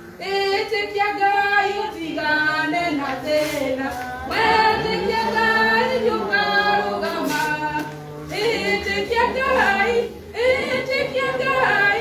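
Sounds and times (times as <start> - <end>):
voices singing along: 0.0 - 12.0
woman singing through microphone: 0.0 - 12.0.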